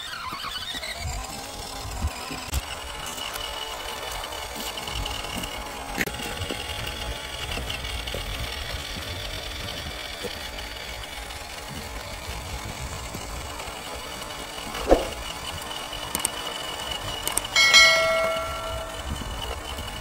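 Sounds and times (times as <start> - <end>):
toy motor and gearbox whining: 0.0 - 20.0
wheels on gritty pavement: 0.0 - 20.0.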